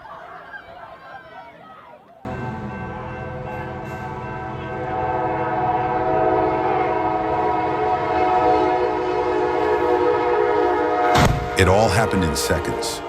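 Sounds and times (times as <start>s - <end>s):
train horn chord: 2.3s - 13.0s.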